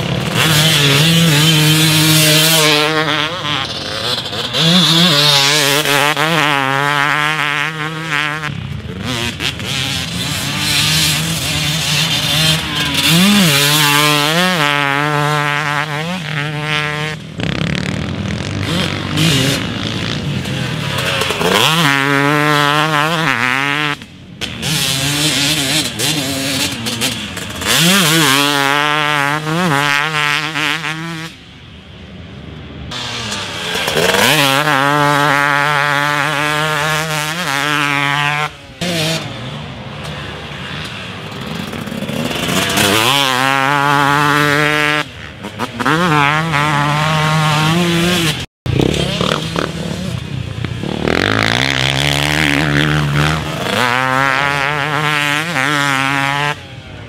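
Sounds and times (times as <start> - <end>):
motocross engine revving: 0.0 - 31.5, 32.9 - 57.0.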